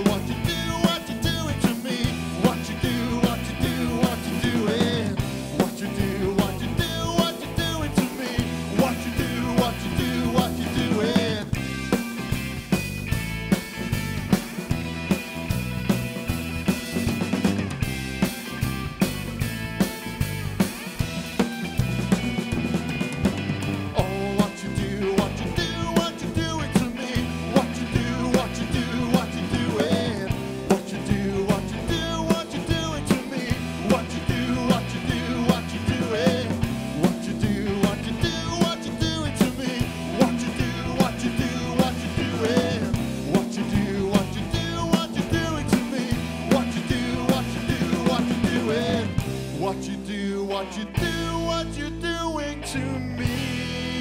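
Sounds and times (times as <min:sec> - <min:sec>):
drum kit beat: 0:00.0 - 0:49.9
bass: 0:00.0 - 0:54.0
electric guitar with bent notes: 0:00.0 - 0:54.0.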